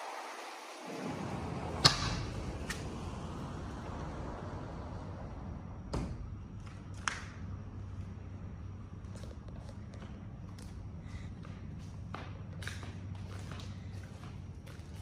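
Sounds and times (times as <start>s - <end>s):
low indoor room hum: 0.1s - 15.0s.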